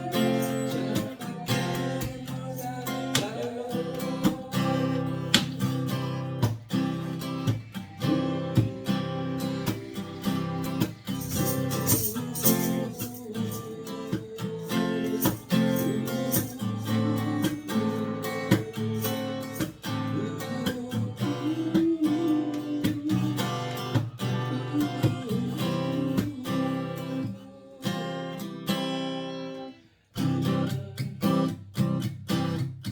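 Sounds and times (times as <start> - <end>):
acoustic guitar ballad: 0.0 - 32.9.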